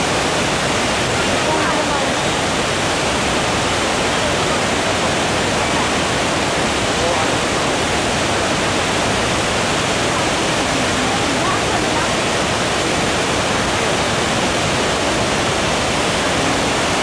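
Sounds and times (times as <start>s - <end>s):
faint voices: 0.0s - 17.0s
waterfall rushing over rocks: 0.0s - 17.0s.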